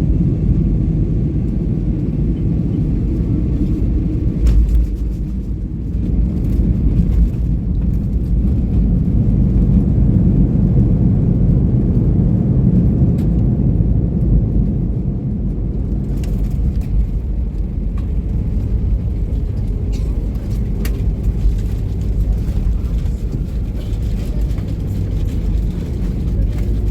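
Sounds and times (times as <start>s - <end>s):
engine-room machinery rumble: 0.0s - 26.9s.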